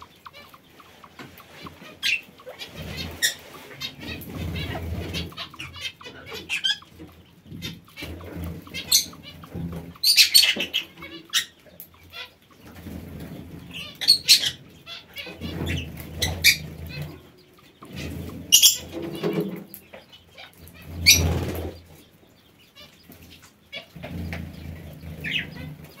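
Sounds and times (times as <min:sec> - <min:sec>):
birds chirping: 0:00.0 - 0:26.0
quail rustling in wood shavings: 0:00.0 - 0:26.0.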